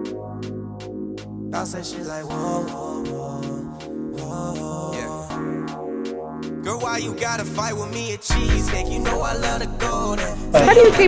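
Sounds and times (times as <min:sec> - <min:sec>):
electronic music with held chords: 0:00.0 - 0:11.0.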